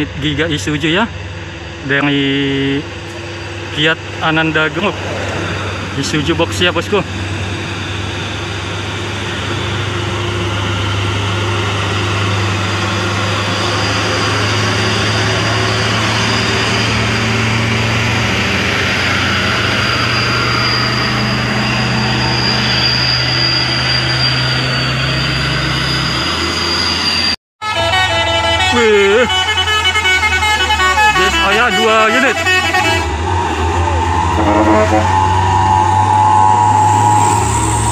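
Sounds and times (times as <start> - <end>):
diesel truck driving past: 0.0 - 37.9.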